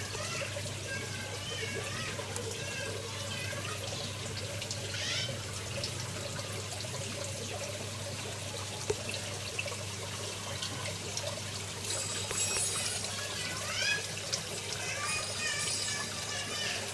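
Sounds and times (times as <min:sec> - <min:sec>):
water trickling: 0:00.0 - 0:16.9.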